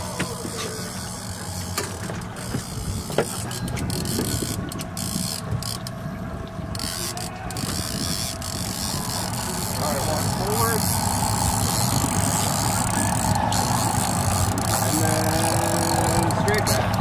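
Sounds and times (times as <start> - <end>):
fishing reel ratcheting: 0.0 - 6.0, 6.7 - 17.0
steady low hum: 0.0 - 17.0
sharp reel clicks: 0.1 - 6.0, 6.7 - 17.0.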